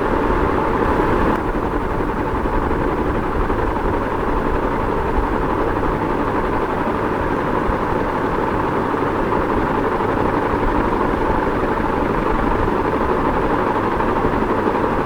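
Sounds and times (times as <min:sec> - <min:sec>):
ceiling fan whirring: 0:00.0 - 0:15.0.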